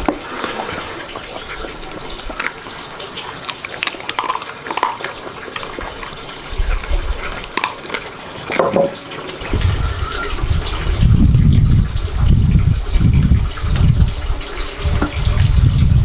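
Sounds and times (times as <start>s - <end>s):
water splashing and pouring: 0.0s - 16.0s.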